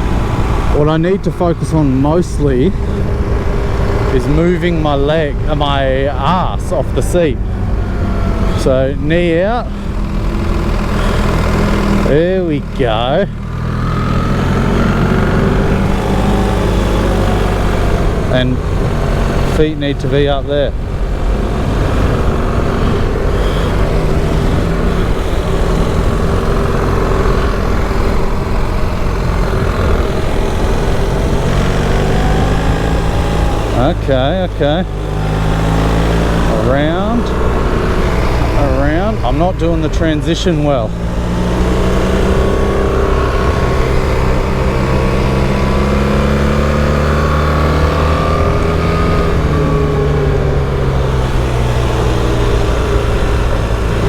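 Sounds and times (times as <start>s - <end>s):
motorcycle engine running hard: 0.0s - 54.0s
wind rushing over microphone: 0.0s - 54.0s.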